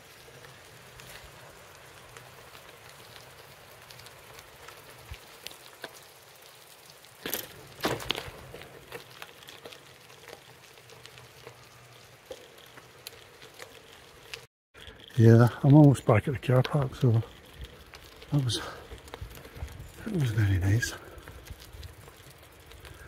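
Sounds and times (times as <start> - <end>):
gravel crunching: 0.0 - 23.0.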